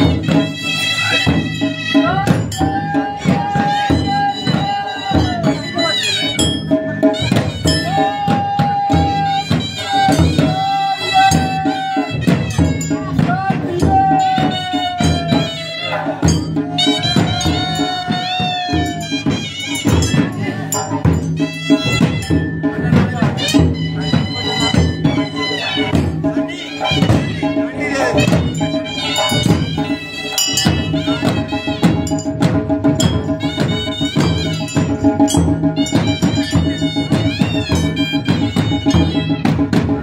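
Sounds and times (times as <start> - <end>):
dense drumming: 0.0 - 40.0
high wind instrument bending notes: 0.0 - 40.0.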